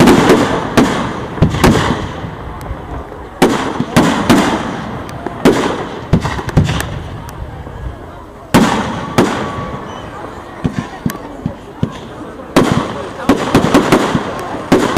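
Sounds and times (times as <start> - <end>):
fireworks bangs with rumbling echo: 0.0 - 14.9.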